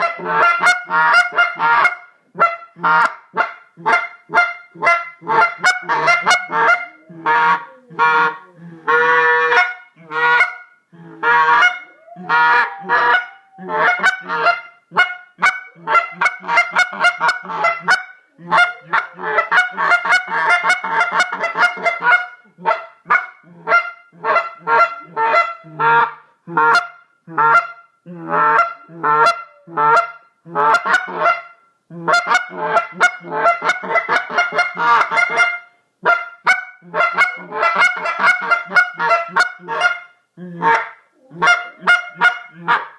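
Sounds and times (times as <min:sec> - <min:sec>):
goose call honks: 0:00.0 - 0:10.6, 0:11.2 - 0:42.9.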